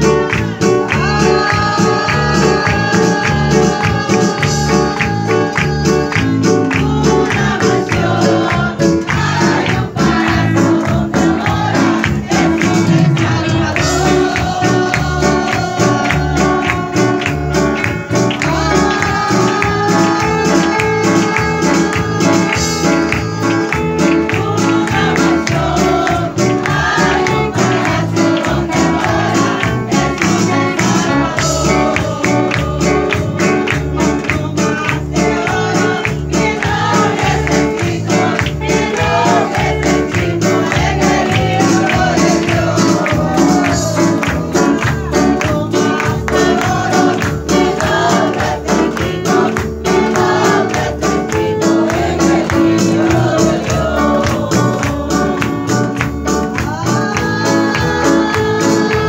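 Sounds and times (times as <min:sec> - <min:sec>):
congregation singing: 0:00.0 - 0:59.0
gospel music with steady beat: 0:00.0 - 0:59.0
people clapping along: 0:00.0 - 0:59.0.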